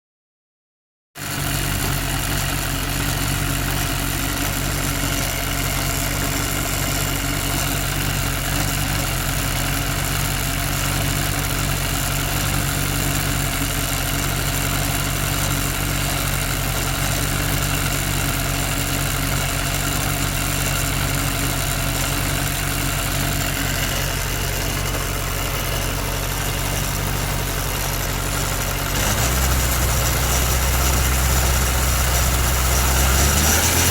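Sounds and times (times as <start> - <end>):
motorcycle engine running: 1.2 - 33.9
abnormal noise from drive sprocket: 1.6 - 33.9.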